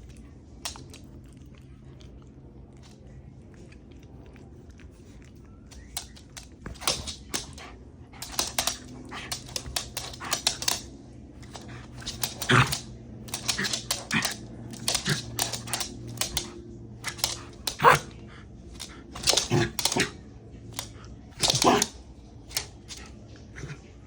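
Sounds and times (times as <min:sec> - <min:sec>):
dog sounds: 0:00.0 - 0:24.0.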